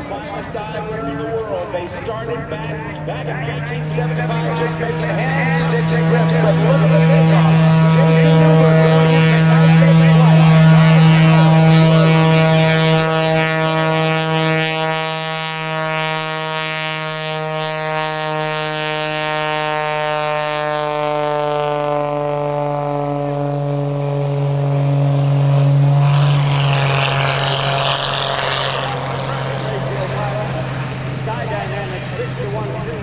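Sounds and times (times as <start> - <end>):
propeller plane engine drone: 0.0 - 33.0.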